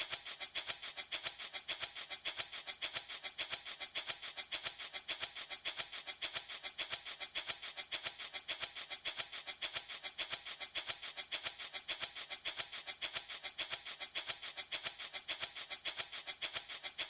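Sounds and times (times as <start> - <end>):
baby rattle shaken: 0.0 - 17.0.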